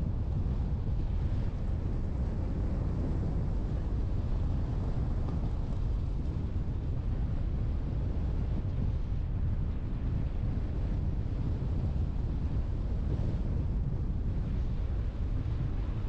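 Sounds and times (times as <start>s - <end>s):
vehicle road noise rumble: 0.0s - 16.0s
wind on microphone: 0.0s - 16.0s.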